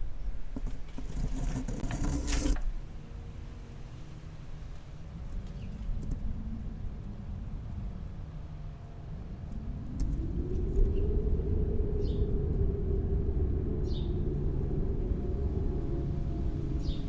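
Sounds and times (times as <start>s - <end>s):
wind low rumble: 0.0s - 17.0s.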